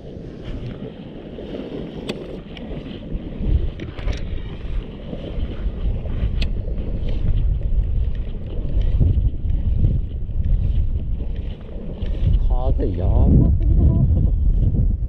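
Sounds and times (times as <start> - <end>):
fast-flowing shallow seawater: 0.0 - 14.7
wind rumbling on microphone: 0.0 - 15.0.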